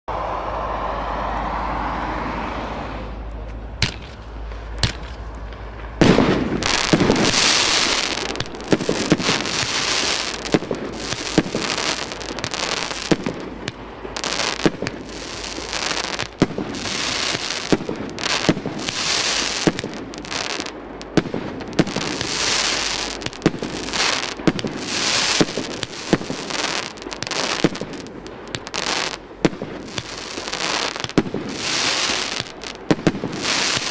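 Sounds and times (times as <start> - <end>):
fireworks cake shots: 6.0 - 33.9
hissing crackling bursts: 6.4 - 33.9.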